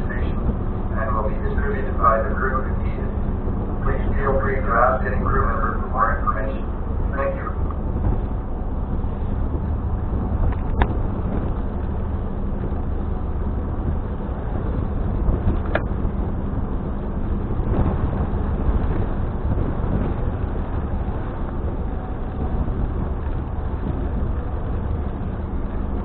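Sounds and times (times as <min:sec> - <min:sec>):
ferry engine rumble: 0:00.0 - 0:26.0.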